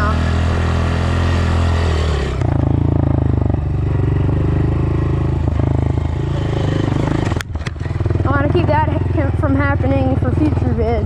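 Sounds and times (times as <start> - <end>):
dirt bike engine: 0.0 - 11.0.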